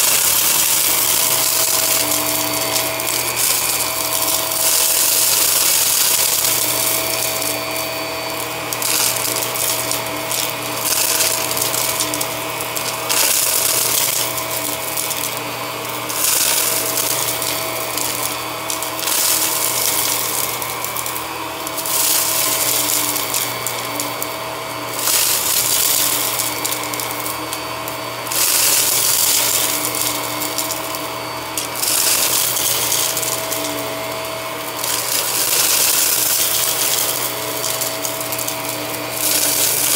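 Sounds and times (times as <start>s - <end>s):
debris crackling up vacuum nozzle: 0.0s - 39.9s
vacuum cleaner motor hum: 0.0s - 39.9s.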